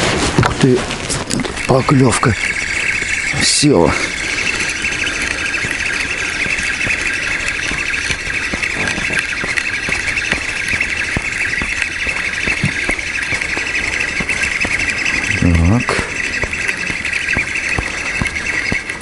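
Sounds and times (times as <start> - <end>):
flock of birds chattering: 0.4 - 19.0.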